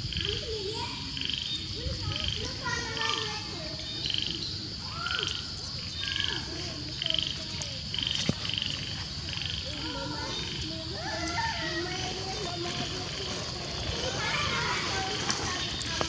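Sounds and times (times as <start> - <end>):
frog rattling call: 1.1 - 16.0.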